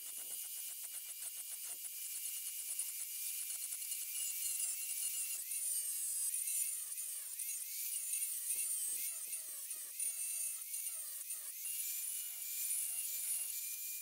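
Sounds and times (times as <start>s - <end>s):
angle grinder whining on metal: 0.0s - 14.0s.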